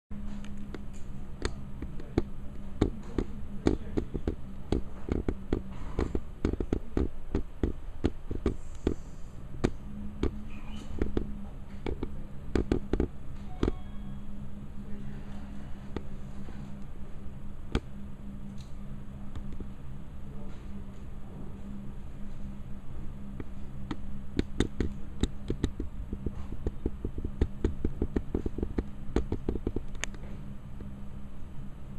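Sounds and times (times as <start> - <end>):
steady low hum: 0.1 - 31.9.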